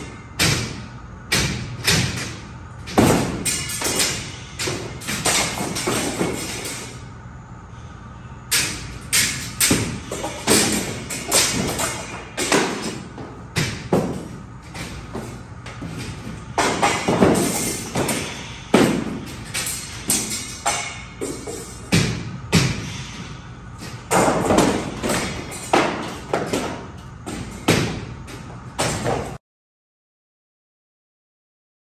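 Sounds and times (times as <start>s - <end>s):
ceiling tiles thudding: 0.0s - 6.9s, 8.5s - 23.0s, 23.8s - 29.4s.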